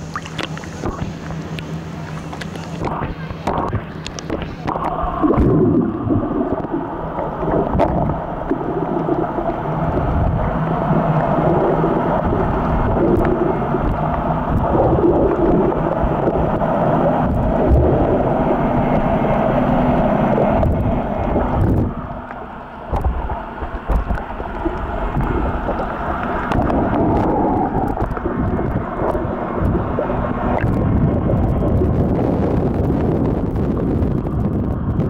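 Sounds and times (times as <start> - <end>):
muffled underwater rushing and bubbling: 0.0 - 35.0.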